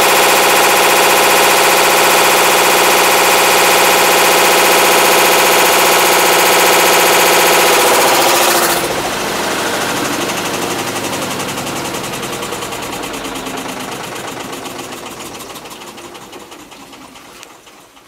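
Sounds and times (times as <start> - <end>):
fast even rattle: 0.0 - 18.0
washing machine grinding drone: 0.0 - 18.0.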